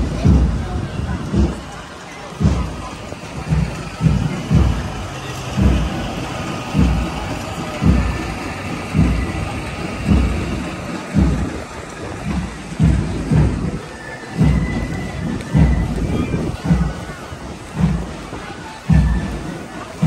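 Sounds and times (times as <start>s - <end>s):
crowd hubbub: 0.0s - 20.0s
deep regular drum thumps: 0.0s - 20.0s.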